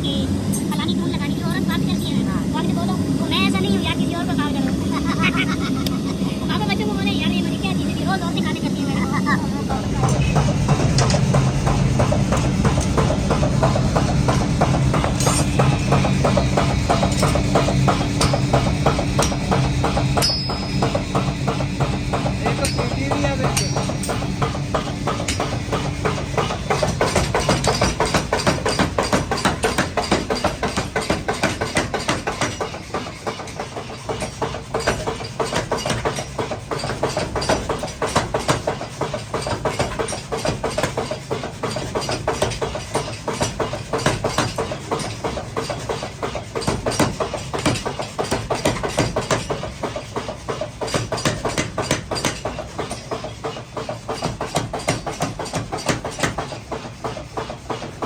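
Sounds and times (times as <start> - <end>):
machinery running: 0.0 - 58.0
hammering on hot metal: 9.6 - 58.0.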